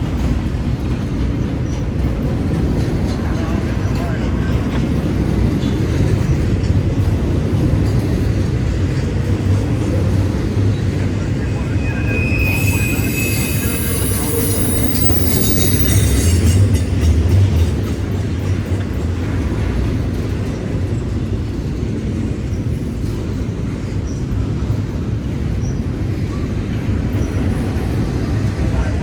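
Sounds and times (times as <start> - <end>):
train cars rolling past: 0.0 - 29.0
wheels rattling on rails: 0.0 - 29.0.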